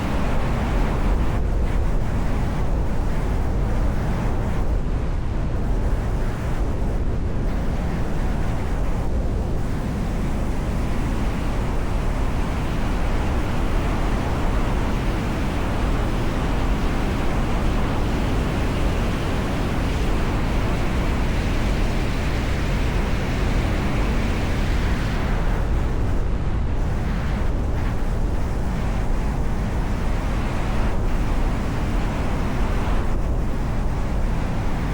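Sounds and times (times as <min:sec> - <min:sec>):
wind on microphone: 0:00.0 - 0:34.9.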